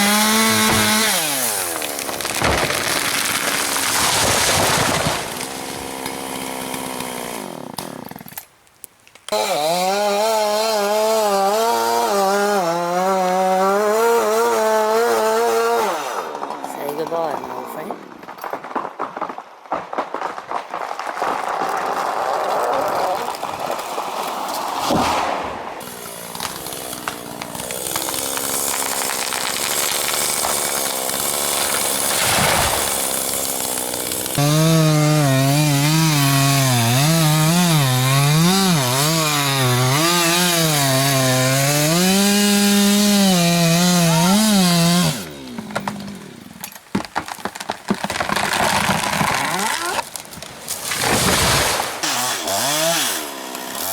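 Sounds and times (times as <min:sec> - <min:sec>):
chainsaw cutting wood: 0:00.0 - 0:08.6, 0:09.2 - 0:20.3, 0:25.8 - 0:53.9.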